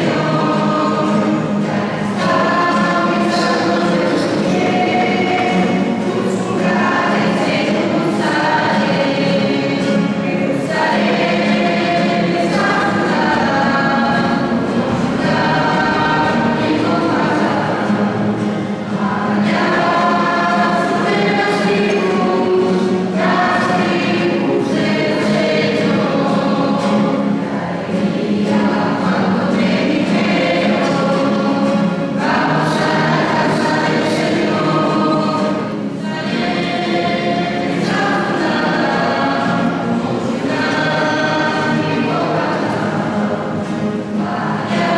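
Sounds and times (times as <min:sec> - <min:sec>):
choir singing a hymn: 0:00.0 - 0:44.9.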